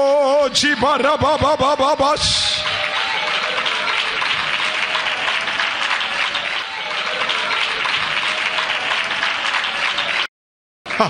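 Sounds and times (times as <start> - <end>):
congregation clapping: 0.7 - 10.3.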